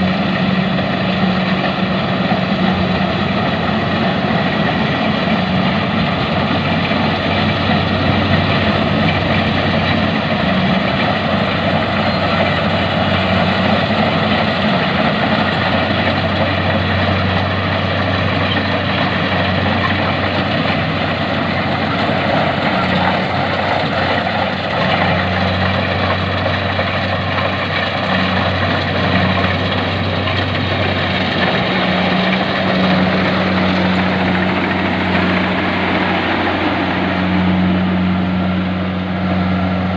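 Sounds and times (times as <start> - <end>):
harvester engine humming: 0.0 - 39.9.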